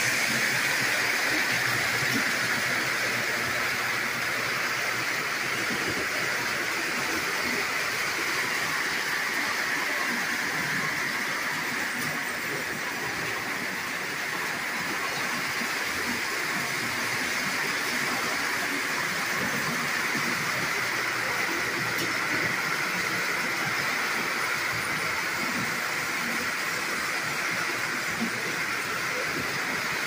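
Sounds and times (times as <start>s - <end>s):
model trains whirring on rails: 0.0s - 30.0s.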